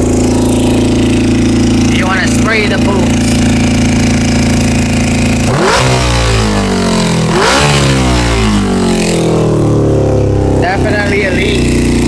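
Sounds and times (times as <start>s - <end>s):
motorcycle engine idling and surging: 0.0s - 12.0s.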